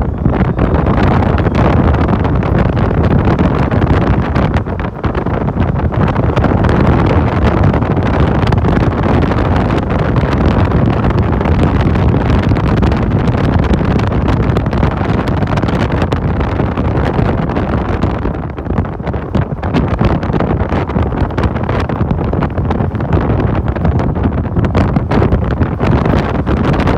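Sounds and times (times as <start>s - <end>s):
road noise: 0.0s - 26.9s
wind buffeting microphone: 0.0s - 26.9s.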